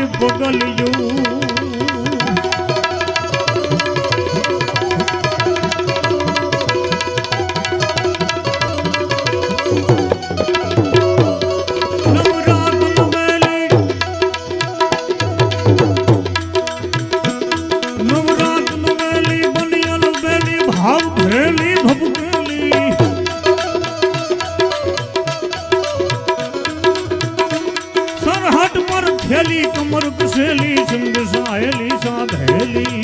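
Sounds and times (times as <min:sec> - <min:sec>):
rapid hand-drum strokes: 0:00.0 - 0:33.0.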